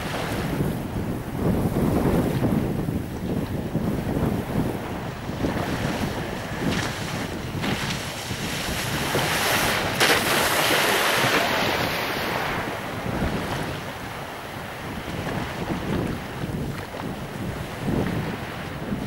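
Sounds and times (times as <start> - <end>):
wave breaking on shore: 0.0 - 19.0
wind buffeting microphone: 0.0 - 19.0.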